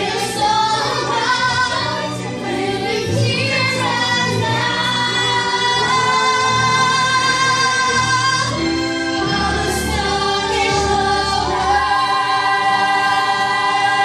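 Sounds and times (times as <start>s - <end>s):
show tune singing with accompaniment: 0.0s - 14.0s.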